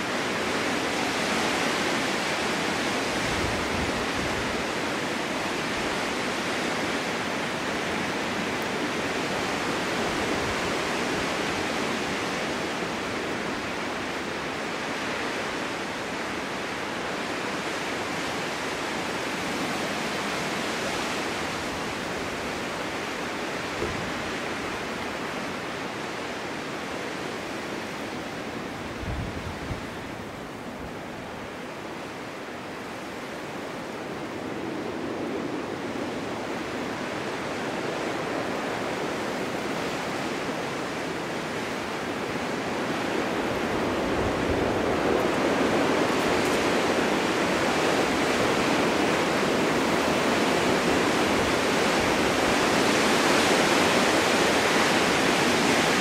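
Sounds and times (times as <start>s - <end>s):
snowstorm wind gusting: 0.0s - 56.0s.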